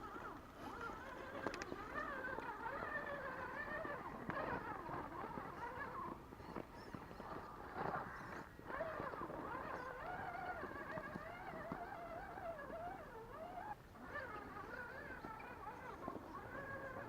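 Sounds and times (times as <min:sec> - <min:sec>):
electric motor and gear whine: 0:00.0 - 0:17.0.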